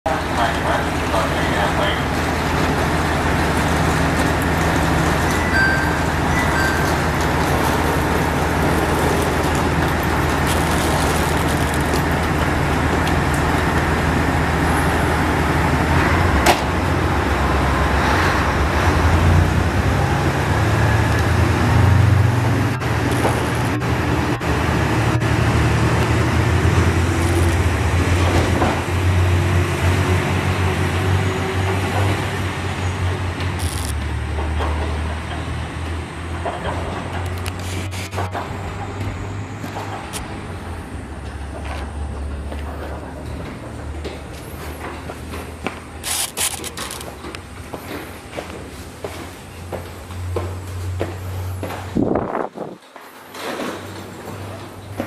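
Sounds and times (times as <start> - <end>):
diesel railcar engines: 0.0 - 55.0.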